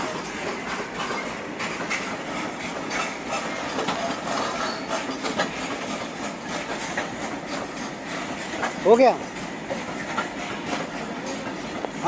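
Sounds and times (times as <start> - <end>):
metallic clicks and clanks: 0.0 - 12.0
steel wheels rumbling on rail: 0.0 - 12.0.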